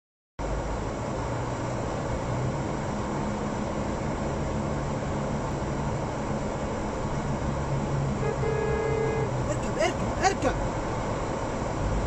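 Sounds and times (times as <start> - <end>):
vehicle engine running: 0.4 - 12.0.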